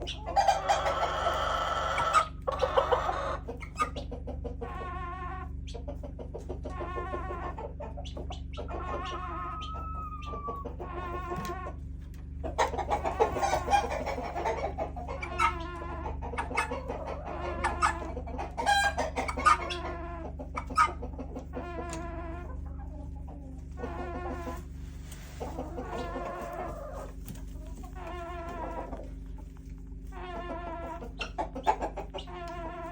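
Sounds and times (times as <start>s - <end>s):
chickens clucking: 0.0s - 32.9s
chickens warbling calls: 0.0s - 32.9s
steady low hum: 0.0s - 32.9s.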